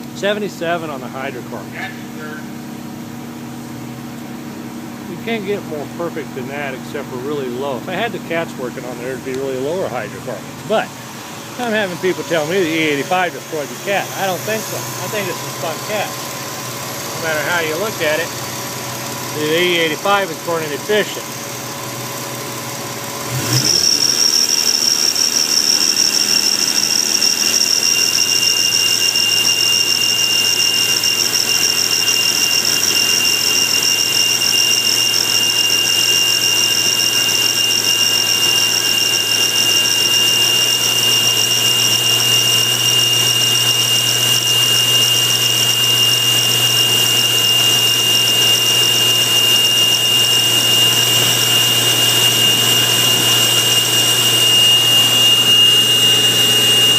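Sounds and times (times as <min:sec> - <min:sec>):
engine running with high-pitched whine: 0:00.0 - 0:56.9.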